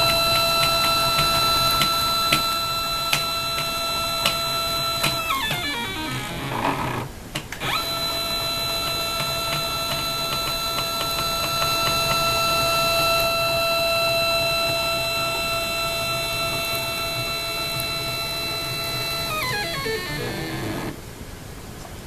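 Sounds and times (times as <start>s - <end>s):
stepper motor whining: 0.0s - 21.0s.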